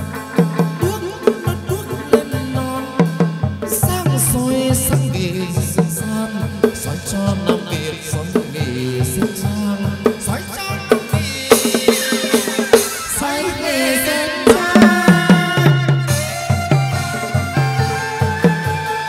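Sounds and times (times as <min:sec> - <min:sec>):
drum and percussion beats: 0:00.0 - 0:19.0
string melody: 0:00.0 - 0:19.0.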